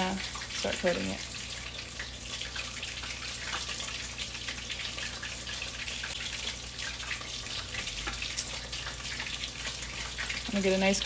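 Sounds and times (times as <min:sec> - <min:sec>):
wings deep-frying in oil: 0:00.0 - 0:11.0.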